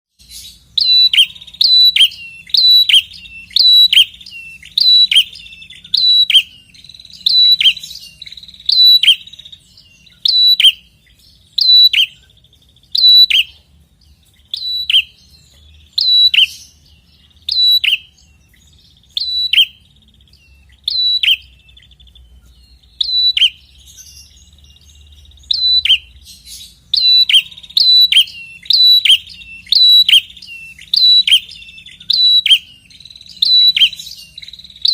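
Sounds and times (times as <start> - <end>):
bird singing: 0.1 - 34.9.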